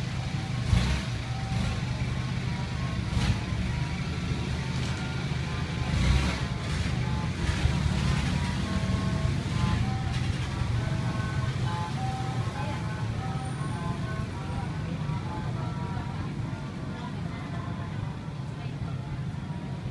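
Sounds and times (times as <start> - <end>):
passing motor traffic rumble: 0.0 - 19.9.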